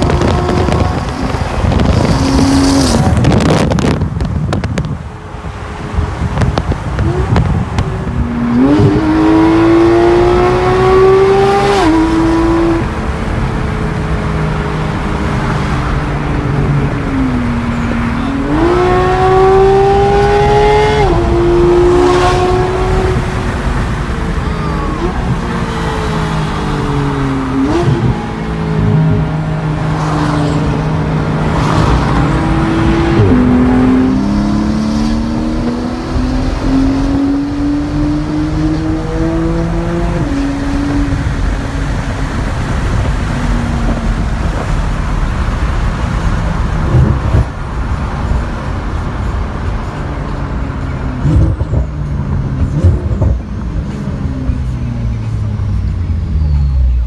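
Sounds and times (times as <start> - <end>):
car engine revving: 0.0 - 49.8.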